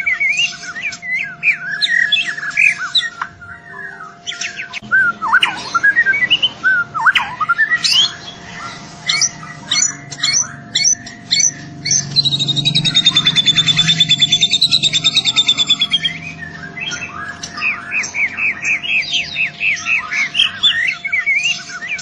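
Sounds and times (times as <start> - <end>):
bird singing whistled song: 0.0 - 22.0
bird trilling: 0.0 - 22.0.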